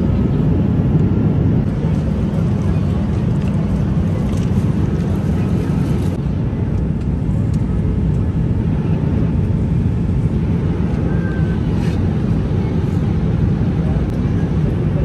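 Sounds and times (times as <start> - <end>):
jet engine and airflow drone: 0.0 - 15.0.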